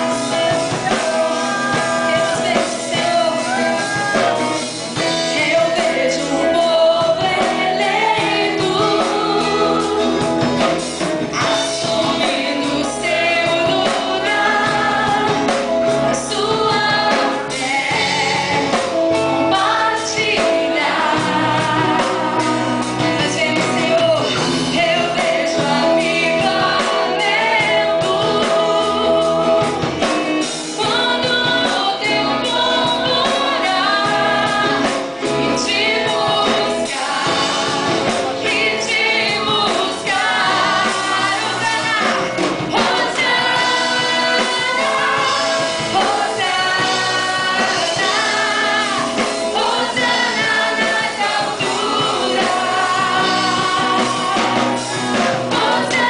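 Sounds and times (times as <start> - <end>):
live band playing: 0.0 - 56.0
woman singing: 0.0 - 56.0.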